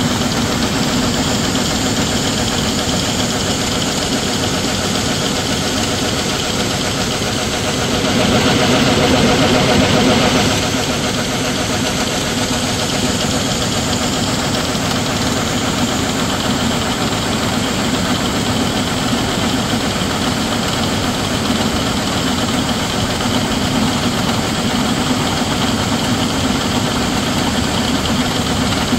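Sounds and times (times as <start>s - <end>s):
small gasoline engine running: 0.0s - 28.9s.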